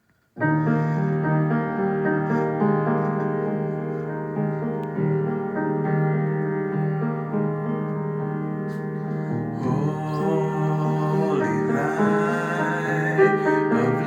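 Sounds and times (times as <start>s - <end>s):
piano chords: 0.4s - 14.0s.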